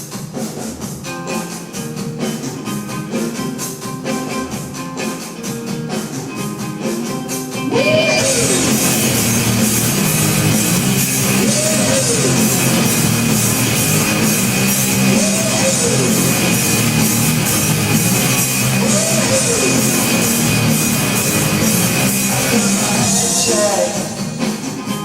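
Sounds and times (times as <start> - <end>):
rock music with drums and guitar: 0.0 - 25.0.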